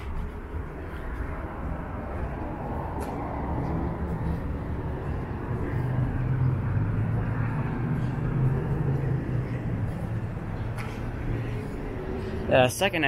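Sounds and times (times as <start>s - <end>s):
low outdoor rumble: 0.0s - 13.0s
vehicle engine approaching: 0.0s - 13.0s.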